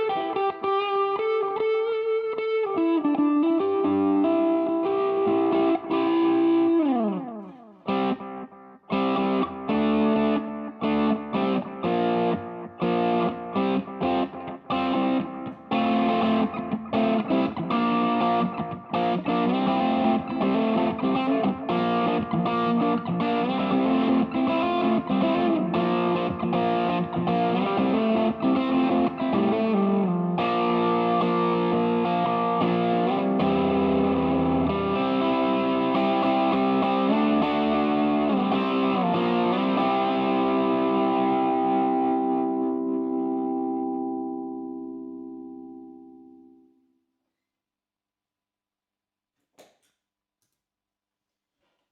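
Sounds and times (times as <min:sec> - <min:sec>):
overdriven electric guitar: 0:00.0 - 0:46.6.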